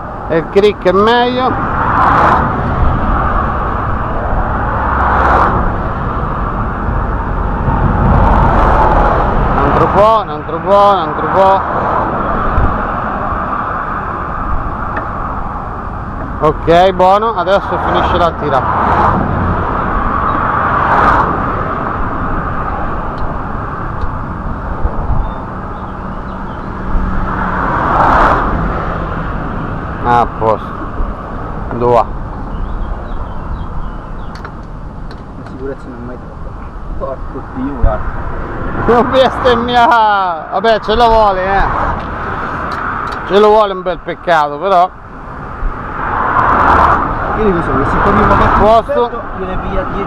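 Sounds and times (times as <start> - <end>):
vehicle sweeping past: 0.0 - 34.4, 36.9 - 50.0
road traffic passing at speed: 0.0 - 50.0.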